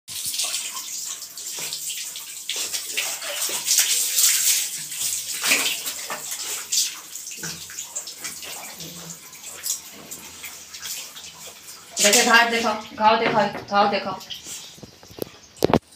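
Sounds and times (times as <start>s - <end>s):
water splashing on dog's coat: 0.1s - 13.0s.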